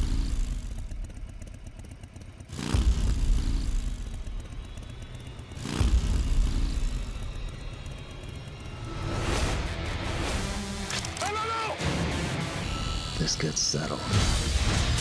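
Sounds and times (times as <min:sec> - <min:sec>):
motorcycle engine revving: 0:00.0 - 0:11.2, 0:11.8 - 0:15.0.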